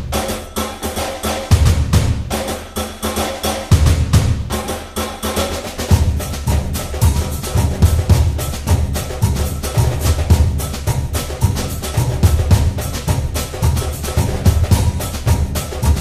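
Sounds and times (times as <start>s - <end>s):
music with drum beat and bass: 0.0s - 16.0s.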